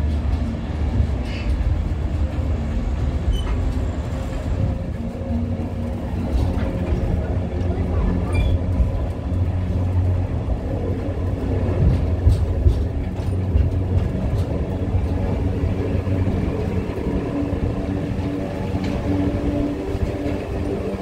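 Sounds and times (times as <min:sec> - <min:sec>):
constant hum: 0:00.0 - 0:21.0
train rumbling along track: 0:00.0 - 0:21.0.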